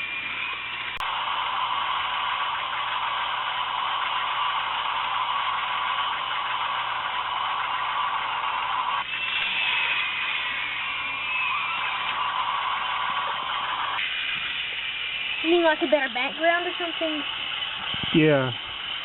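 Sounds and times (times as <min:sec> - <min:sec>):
toy chain lift whirring: 0:02.2 - 0:19.0.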